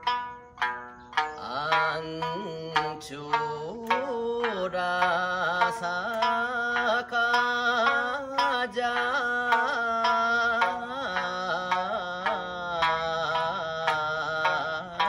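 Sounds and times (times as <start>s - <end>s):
man singing long wavering notes: 0.0s - 15.0s
plucked strings: 0.0s - 15.0s.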